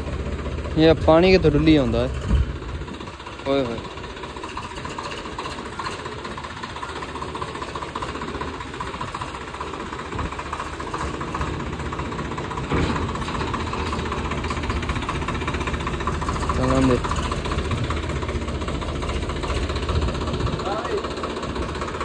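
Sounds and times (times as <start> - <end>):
tractor diesel engine clatter: 0.0 - 22.0.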